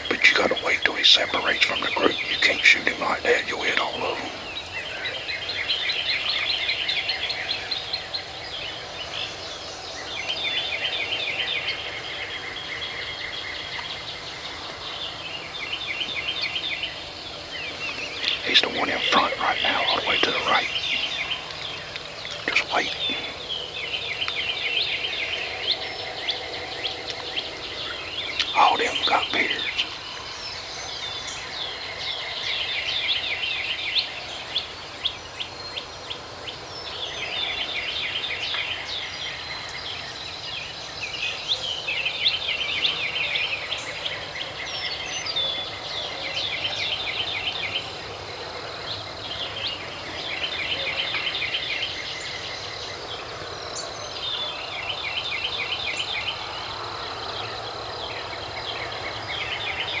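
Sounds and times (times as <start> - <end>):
songbirds singing: 0.0 - 60.0.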